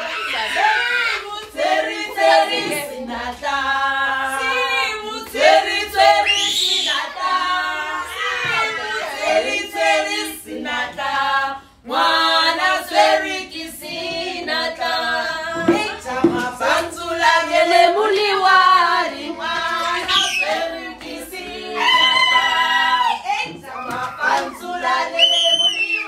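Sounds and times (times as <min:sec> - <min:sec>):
women singing without instruments: 0:00.0 - 0:26.0.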